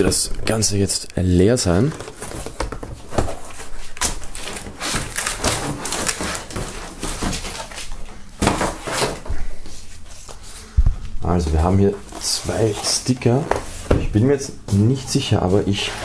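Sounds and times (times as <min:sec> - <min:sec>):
cardboard rustling and scraping: 0:01.6 - 0:16.0.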